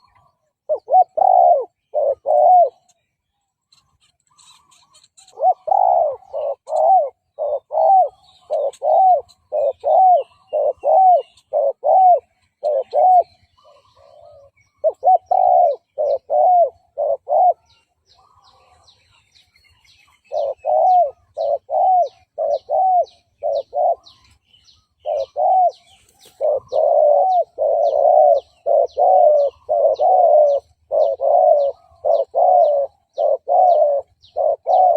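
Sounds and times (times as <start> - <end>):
dove cooing: 0.0 - 3.0, 3.7 - 18.9, 20.1 - 34.9.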